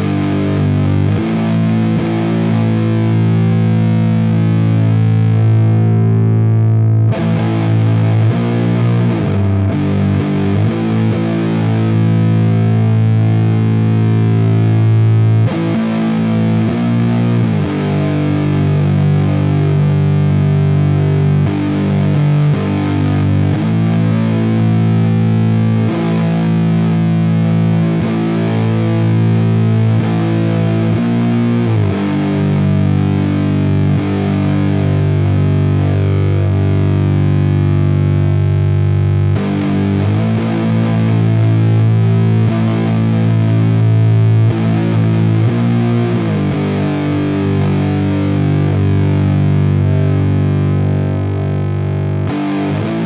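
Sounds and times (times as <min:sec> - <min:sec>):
distorted electric guitar chords: 0:00.0 - 0:53.0.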